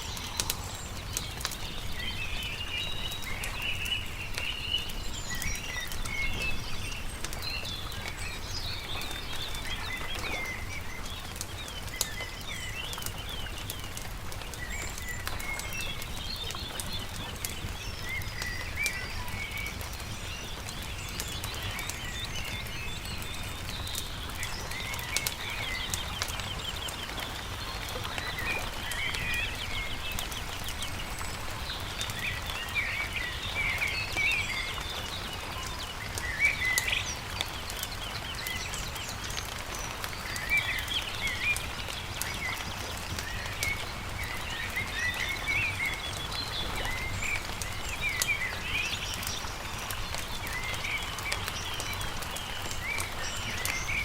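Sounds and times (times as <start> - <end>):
campfire crackling and popping: 0.0 - 54.0
songbirds chirping and trilling: 0.0 - 54.0.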